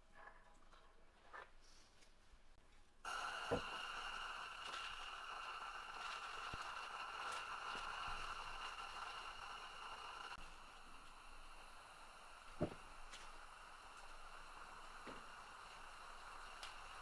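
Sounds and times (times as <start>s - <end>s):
space heater rushing and whining: 3.1s - 17.0s.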